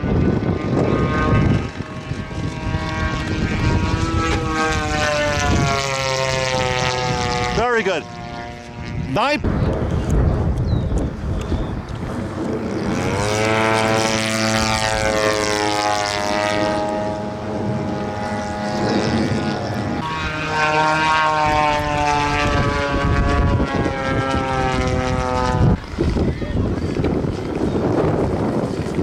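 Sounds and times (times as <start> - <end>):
model airplane engine droning: 0.0 - 29.0
wind rumbling on microphone: 0.0 - 29.0.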